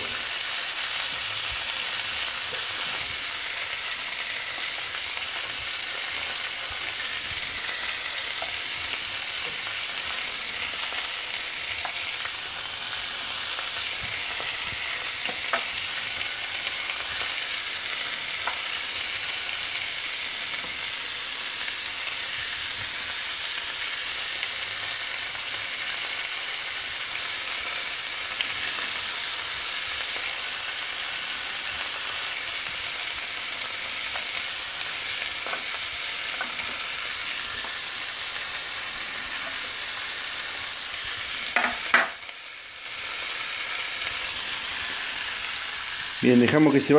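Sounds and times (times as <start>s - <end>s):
meat and onions sizzling on griddle: 0.0s - 46.9s.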